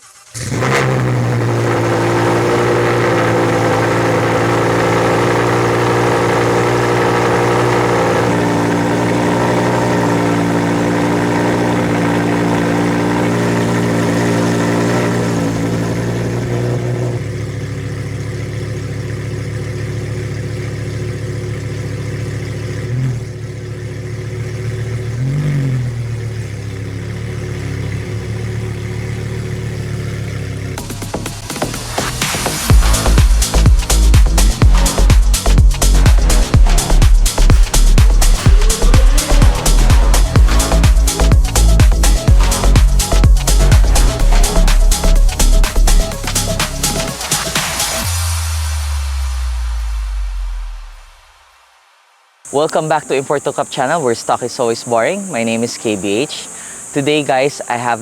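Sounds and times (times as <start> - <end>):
car engine idling: 0.0 - 51.8, 52.4 - 58.0.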